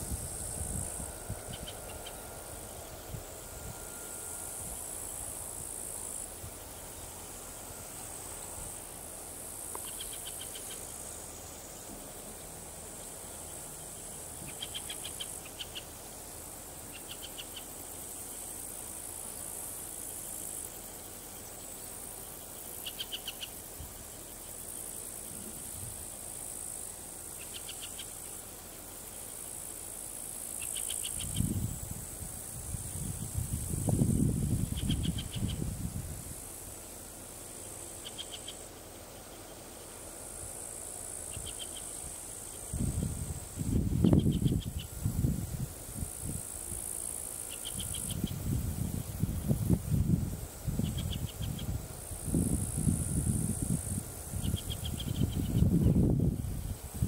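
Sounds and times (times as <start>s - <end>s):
insects shrill buzzing: 0.0s - 57.0s.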